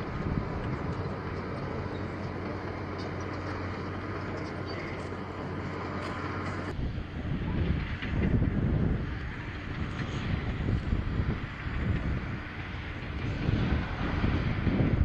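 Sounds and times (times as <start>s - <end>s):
engine hum: 0.0s - 15.0s
rushing noise: 0.0s - 15.0s.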